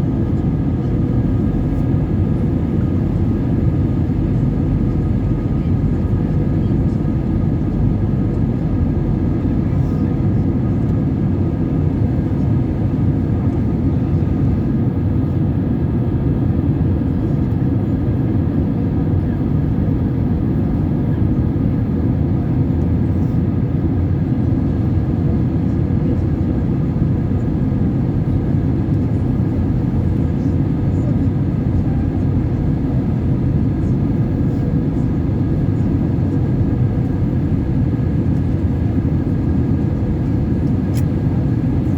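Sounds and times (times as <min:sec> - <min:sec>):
airliner cabin engine noise: 0:00.0 - 0:41.9.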